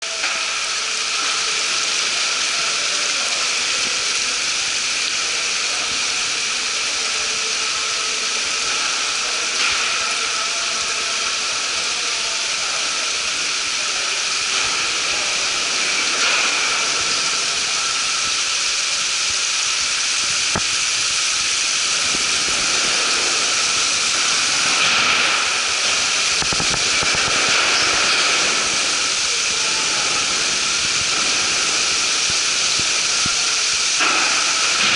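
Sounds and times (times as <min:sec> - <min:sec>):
water and air rushing through tanks: 0:00.0 - 0:34.9.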